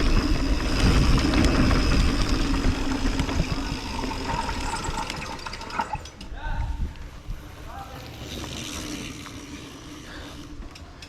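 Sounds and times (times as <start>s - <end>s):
bike tyres rumbling on dirt: 0.0s - 6.0s, 6.8s - 10.7s.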